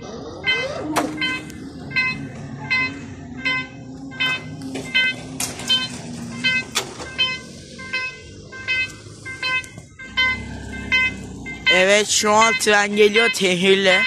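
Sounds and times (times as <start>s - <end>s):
level crossing warning bell: 0.3s - 14.0s.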